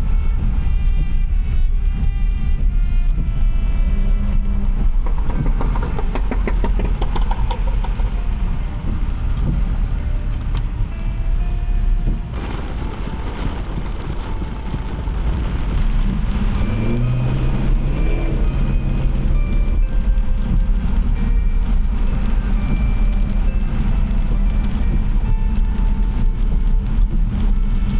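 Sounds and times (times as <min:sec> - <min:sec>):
car engine and tyre rumble: 0:00.0 - 0:27.9
short street tones: 0:02.5 - 0:27.9.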